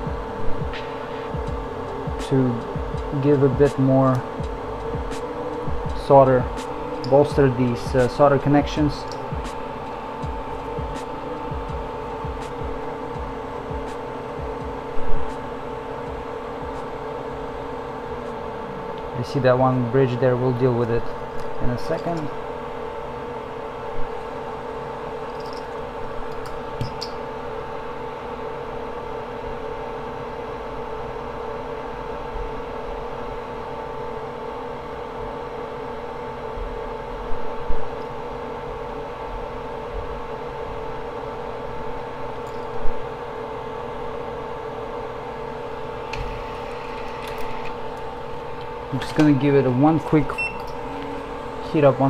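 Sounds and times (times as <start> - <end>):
electric fan hum: 0.0 - 52.0.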